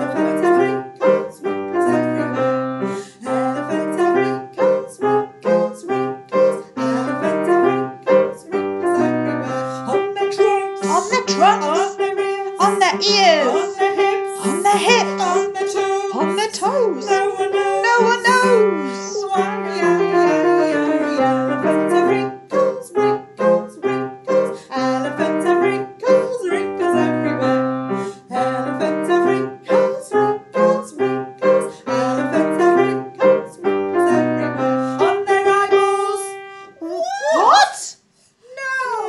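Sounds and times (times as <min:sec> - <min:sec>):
piano music: 0:00.0 - 0:36.8.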